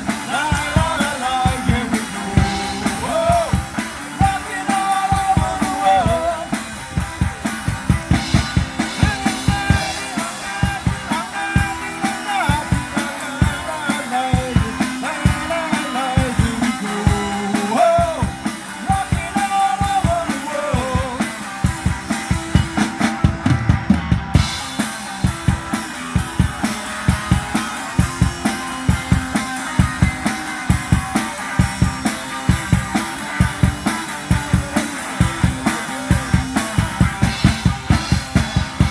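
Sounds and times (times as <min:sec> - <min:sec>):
drum kit fast beat: 0:00.0 - 0:38.9.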